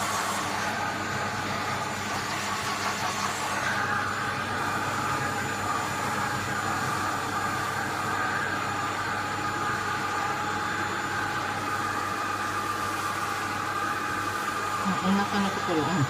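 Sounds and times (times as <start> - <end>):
vacuum cleaner whine: 0.0 - 16.0.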